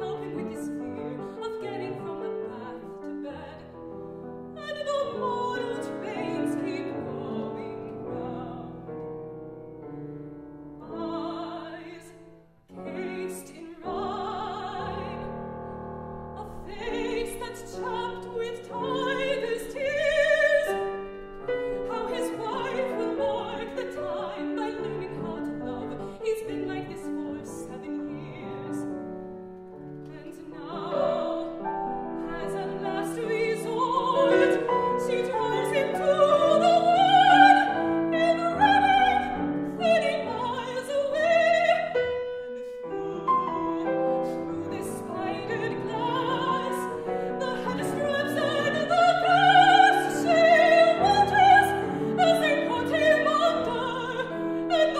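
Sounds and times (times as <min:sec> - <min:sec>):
woman singing opera: 0:00.0 - 0:08.9, 0:10.8 - 0:15.5, 0:16.4 - 0:29.0, 0:30.0 - 0:54.9
grand piano accompaniment: 0:00.0 - 0:54.9.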